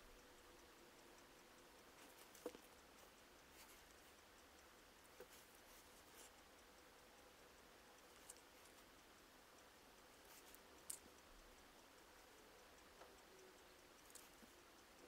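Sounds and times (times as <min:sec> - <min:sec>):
soft ticks: 0:00.0 - 0:15.0.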